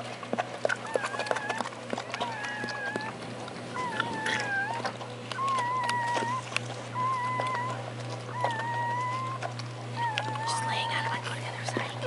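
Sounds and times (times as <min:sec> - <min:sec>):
puppy crying in squeals: 0:00.7 - 0:11.3.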